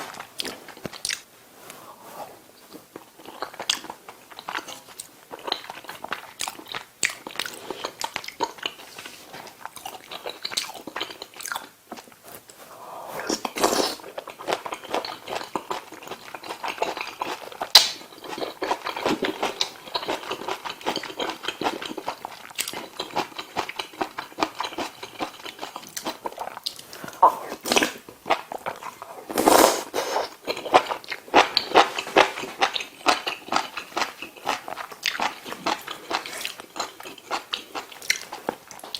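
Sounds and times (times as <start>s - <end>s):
close chewing and biting: 0.0s - 1.3s, 2.6s - 29.3s, 30.0s - 38.9s.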